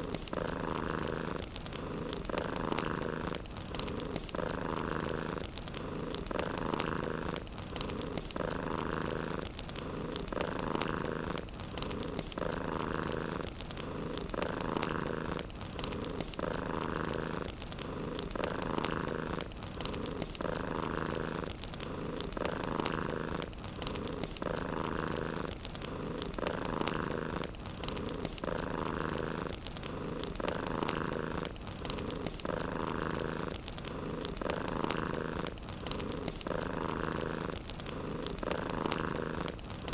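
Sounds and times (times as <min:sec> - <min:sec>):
cat purring: 0:00.0 - 0:39.9
faint fireplace crackle: 0:00.0 - 0:39.9.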